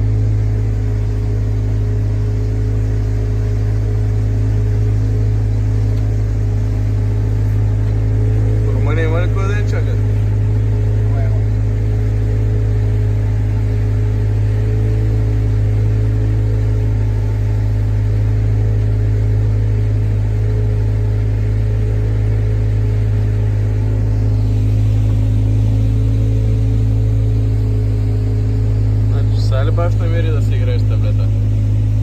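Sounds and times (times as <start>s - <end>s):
speedboat engine running: 0.0s - 32.0s.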